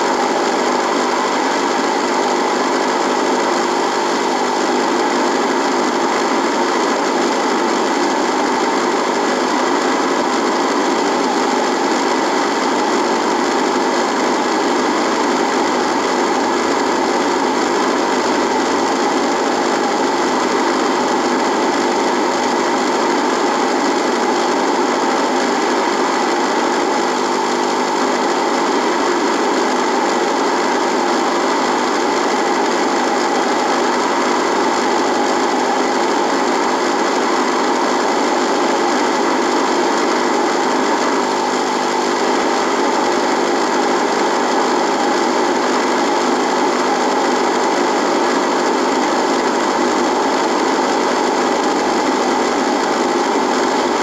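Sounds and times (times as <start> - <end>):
radio buzzing with static: 0.0 - 54.0.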